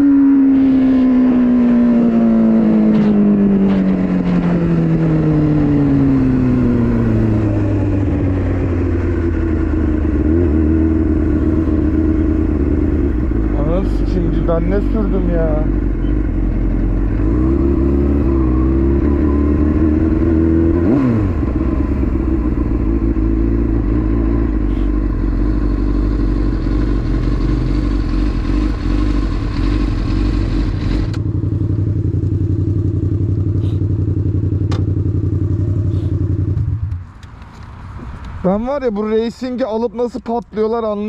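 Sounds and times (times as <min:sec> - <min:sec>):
motorcycle engine running: 0:00.0 - 0:38.1.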